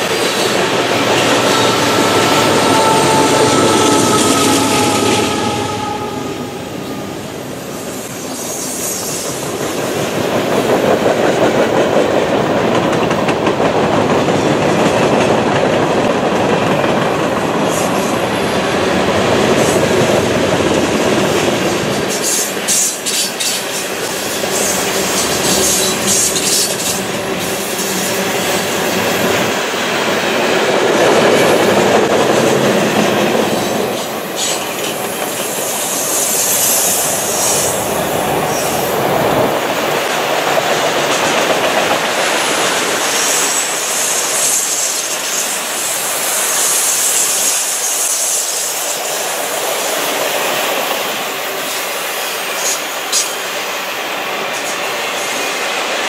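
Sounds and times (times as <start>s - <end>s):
freight train rolling past: 0.0s - 56.0s
wheels clicking on rail: 8.4s - 53.8s.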